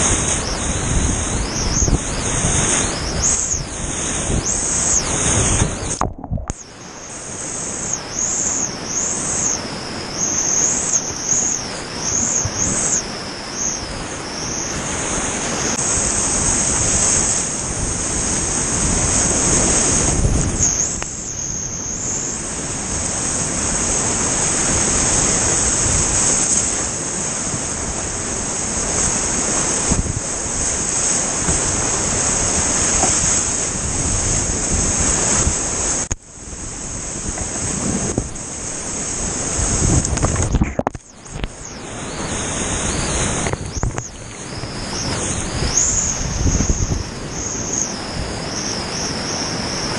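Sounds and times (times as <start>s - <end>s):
creek water rushing and splashing: 0.0s - 21.3s, 22.2s - 49.9s.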